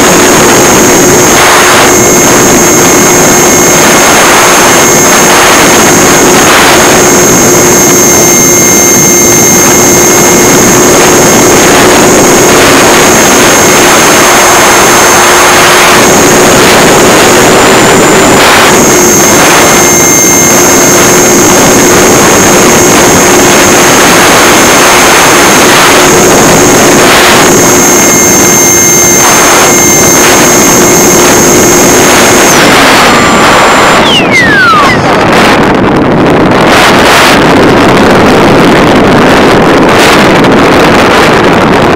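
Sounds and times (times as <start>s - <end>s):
electric motor and propeller: 0.0s - 41.9s
wind rush over microphone: 0.0s - 41.9s.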